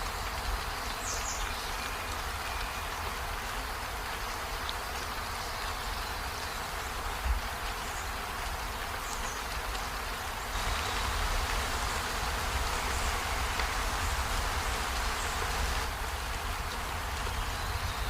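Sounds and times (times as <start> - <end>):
rain on trees and window: 0.0 - 18.0.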